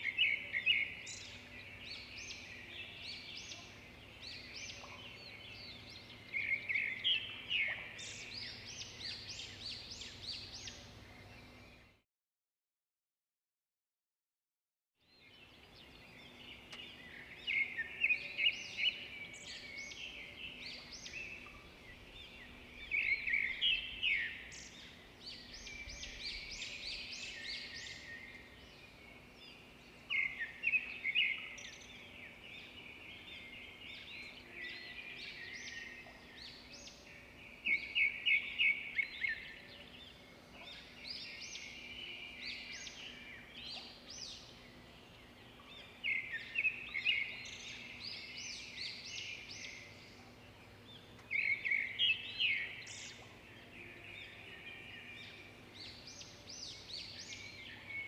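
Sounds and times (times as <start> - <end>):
songbirds chirping and singing: 0.0 - 12.0, 15.0 - 58.0.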